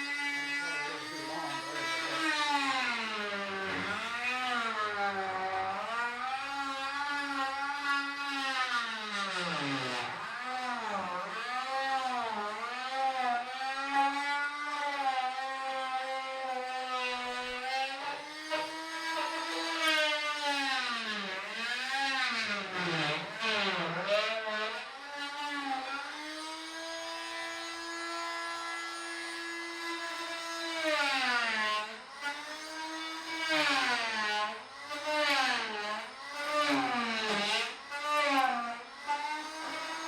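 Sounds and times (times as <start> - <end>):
oscillating tool cutting wood: 0.0 - 40.0.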